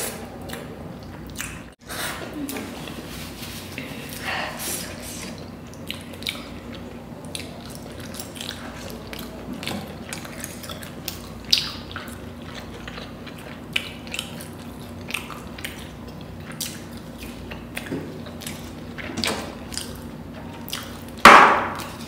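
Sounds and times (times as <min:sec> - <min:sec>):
wet chewing and mouth smacks: 0:00.0 - 0:01.8, 0:05.2 - 0:21.2.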